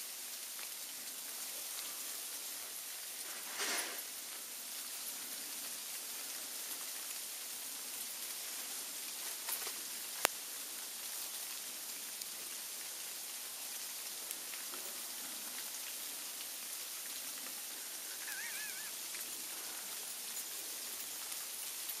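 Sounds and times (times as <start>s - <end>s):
sleet hissing on leaves: 1.0s - 22.0s.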